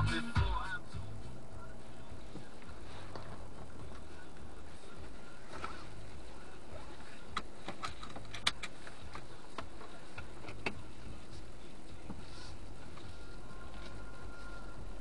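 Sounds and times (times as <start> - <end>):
low hum inside car: 0.0 - 15.0.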